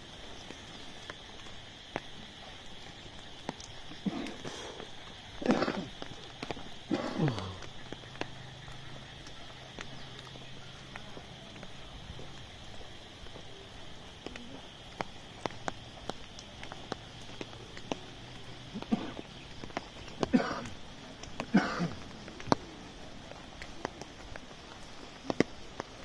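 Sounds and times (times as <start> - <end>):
rain pattering on an umbrella: 0.0 - 26.0.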